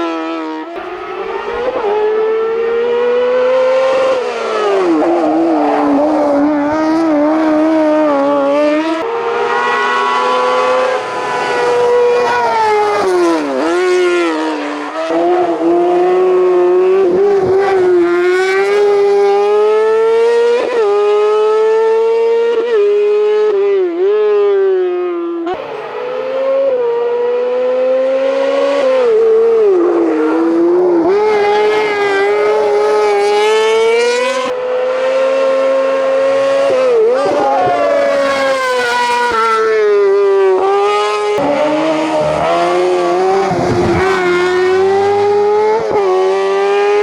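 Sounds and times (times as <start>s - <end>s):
racing car engine at high revs: 0.0s - 47.0s.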